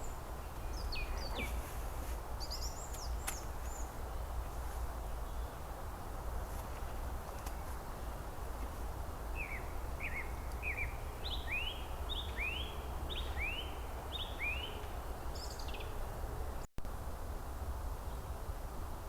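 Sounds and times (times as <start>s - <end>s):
songbird singing: 0.0s - 16.7s.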